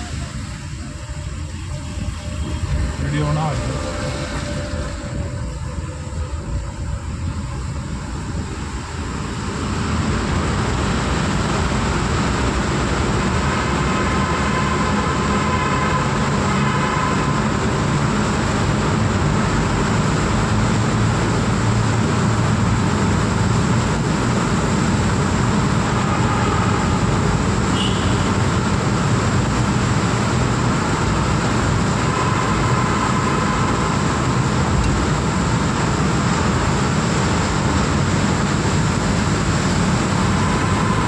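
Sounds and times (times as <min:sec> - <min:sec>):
car road noise rumble: 0:00.0 - 0:41.0
surrounding traffic: 0:00.0 - 0:41.0.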